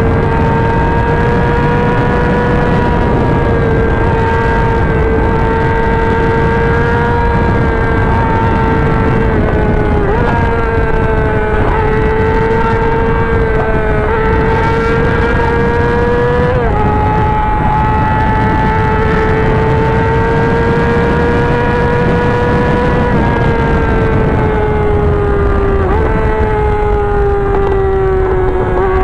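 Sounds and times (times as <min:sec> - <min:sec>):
motorcycle engine high revs whine: 0:00.0 - 0:29.0.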